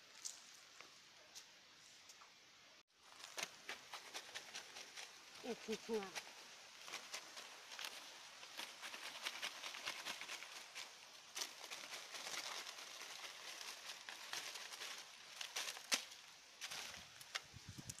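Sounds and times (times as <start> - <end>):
leafy nest rustling: 3.0 - 18.0.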